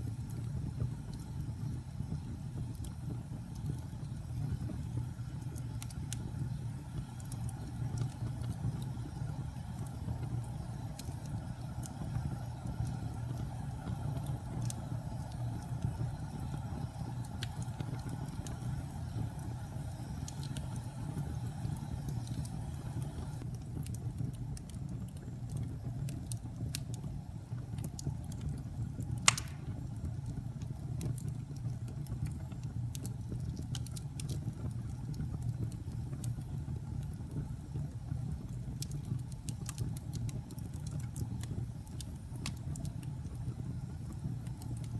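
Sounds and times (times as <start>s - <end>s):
fire burning in fireplace: 0.0s - 44.9s
fire crackling and popping: 0.0s - 44.9s.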